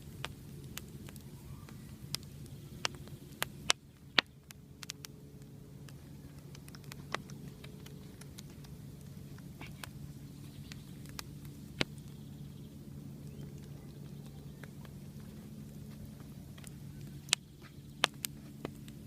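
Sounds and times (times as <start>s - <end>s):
campfire crackling: 0.0s - 19.0s
steady low hum: 0.0s - 19.0s.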